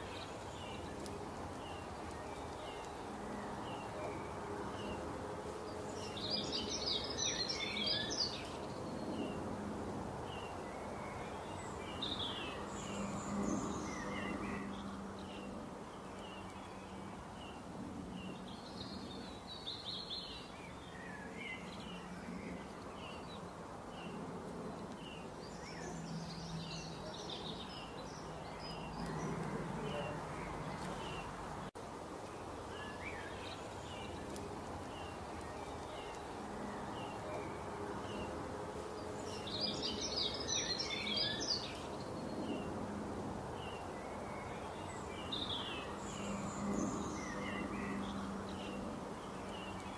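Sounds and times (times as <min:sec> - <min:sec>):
birds singing and chirping: 0:00.0 - 0:09.5, 0:10.2 - 0:42.7, 0:43.5 - 0:49.9.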